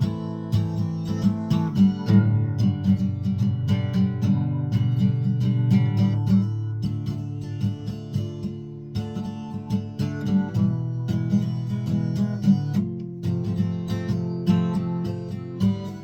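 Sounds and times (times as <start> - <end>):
guitar chords strummed: 0.0 - 16.0.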